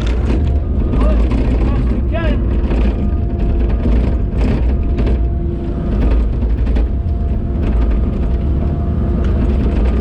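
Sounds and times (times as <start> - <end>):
excavator diesel engine: 0.0 - 10.0
hydraulic whine: 0.0 - 10.0.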